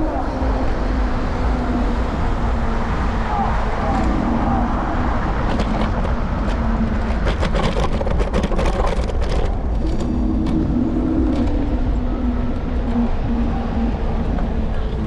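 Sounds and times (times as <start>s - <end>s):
wind and road rumble: 0.0s - 15.0s.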